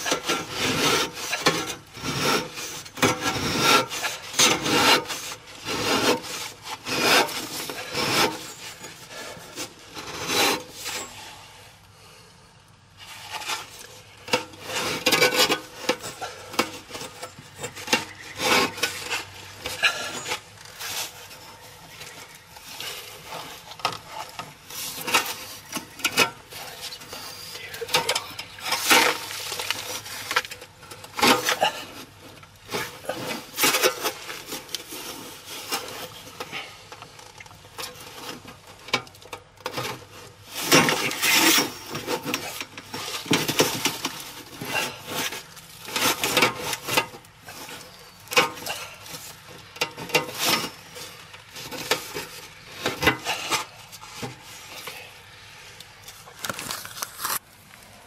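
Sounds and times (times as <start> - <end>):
metal scraping and clinking: 0.0 - 11.5, 13.0 - 58.0.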